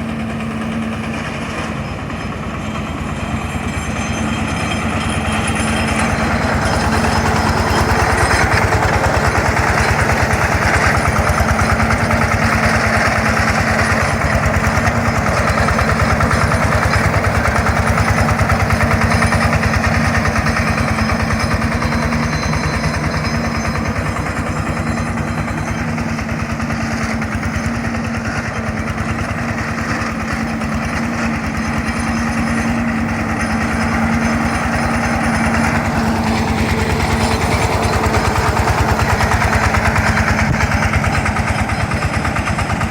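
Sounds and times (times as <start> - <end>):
combine harvester engine running: 0.0 - 42.9.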